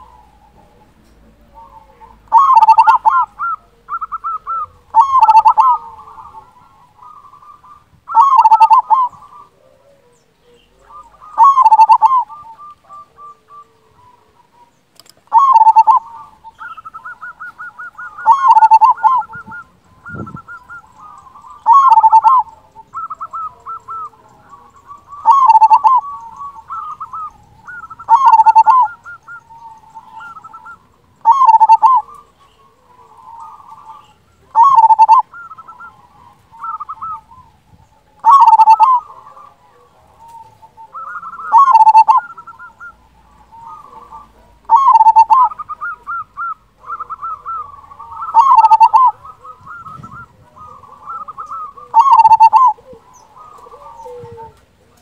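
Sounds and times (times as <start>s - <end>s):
dove cooing: 0.0s - 55.0s
soft trilled coos: 0.0s - 55.0s.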